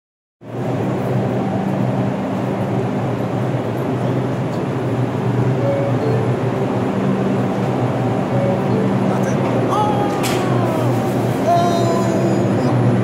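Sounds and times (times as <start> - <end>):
subway train humming: 0.4 - 13.0.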